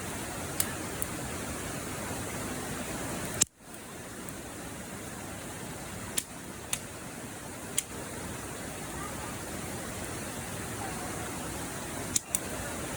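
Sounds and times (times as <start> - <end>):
campfire burning: 0.0 - 12.9.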